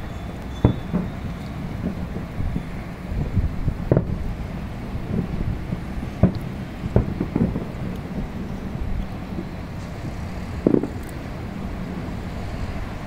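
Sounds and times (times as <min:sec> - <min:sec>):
distant fireworks bangs: 0:00.0 - 0:12.9
city traffic rumble: 0:00.0 - 0:13.0
wind on microphone: 0:00.0 - 0:13.0.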